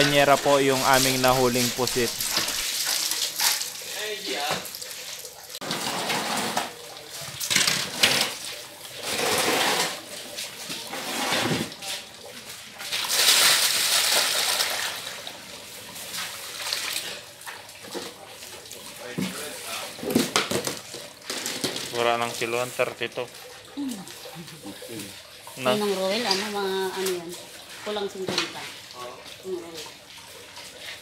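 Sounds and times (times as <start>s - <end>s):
water and squid splashing in tubs: 0.0s - 31.0s.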